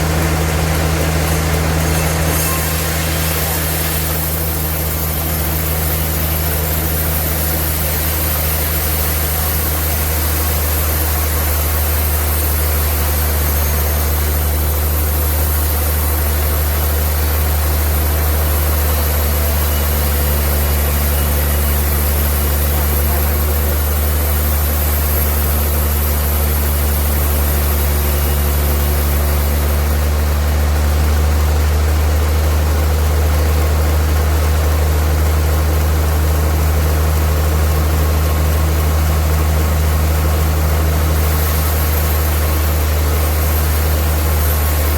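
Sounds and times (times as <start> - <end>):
sawmill machinery hum: 0.0 - 44.9.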